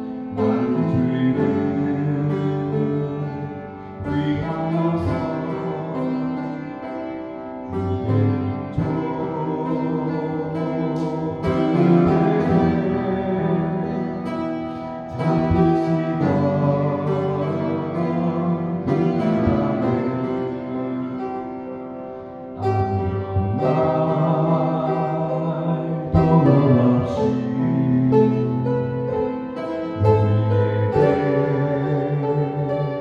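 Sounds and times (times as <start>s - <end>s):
upright piano chords: 0.0s - 33.0s.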